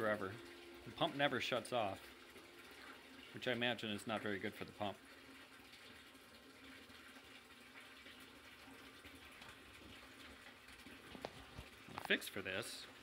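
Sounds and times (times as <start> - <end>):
sump pump running: 0.0 - 13.0
water rushing into sump pit: 0.0 - 13.0.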